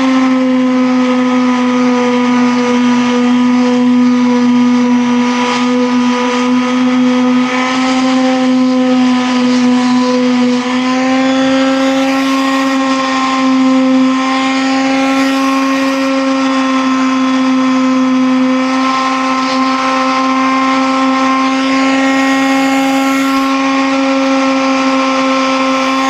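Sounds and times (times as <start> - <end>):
motor humming: 0.0 - 26.0.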